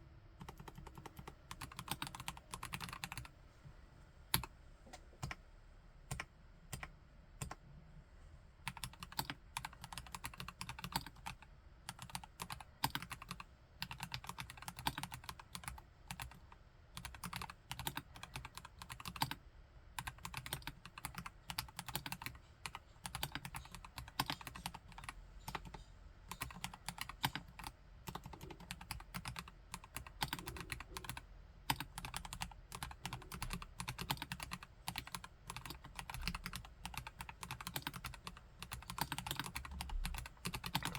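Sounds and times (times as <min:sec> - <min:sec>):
typing on mechanical keyboard: 0:00.4 - 0:03.3, 0:08.7 - 0:16.4, 0:17.0 - 0:19.4, 0:20.0 - 0:40.9.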